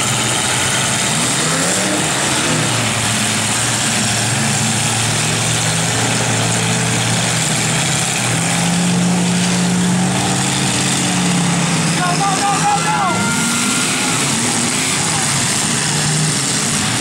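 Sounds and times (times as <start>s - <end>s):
truck engines running hard: 0.0s - 17.0s.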